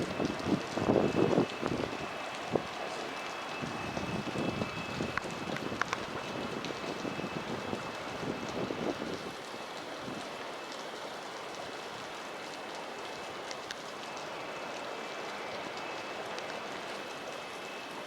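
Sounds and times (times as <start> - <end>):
heavy rain pouring: 0.0 - 18.0
water streaming along road: 0.0 - 18.0.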